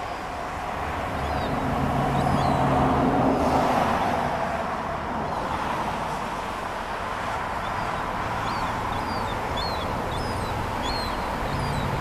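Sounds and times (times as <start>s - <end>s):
urban traffic noise: 0.0s - 12.0s
vehicle passing: 0.5s - 12.0s.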